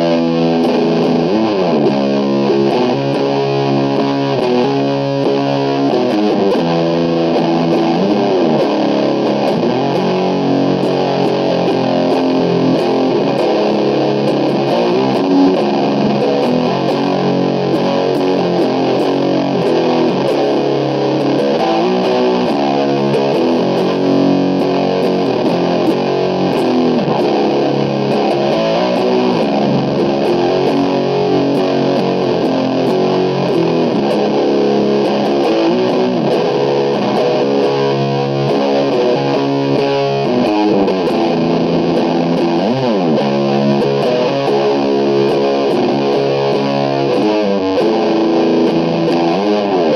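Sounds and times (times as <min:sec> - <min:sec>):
distorted electric guitar riff: 0:00.0 - 0:49.9.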